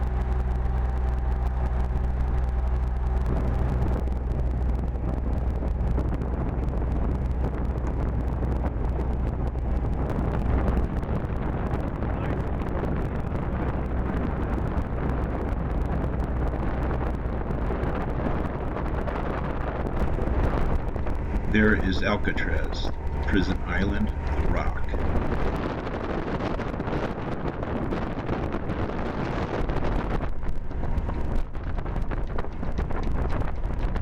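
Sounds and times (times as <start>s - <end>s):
boat engine humming: 0.0s - 26.6s, 27.3s - 34.0s
wind rushing: 3.2s - 34.0s.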